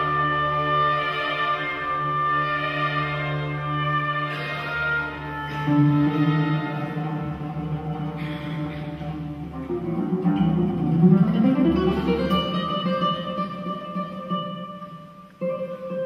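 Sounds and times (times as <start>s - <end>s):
classical guitar playing: 0.0s - 16.0s.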